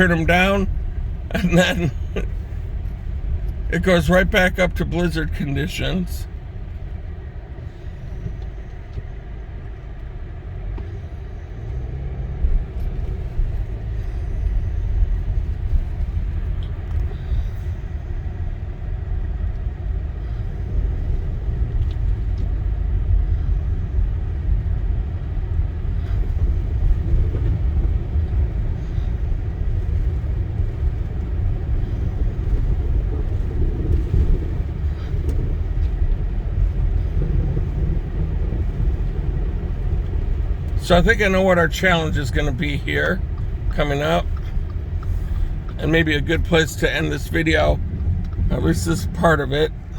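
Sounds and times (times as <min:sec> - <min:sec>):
car road and engine rumble: 0:00.0 - 0:49.9.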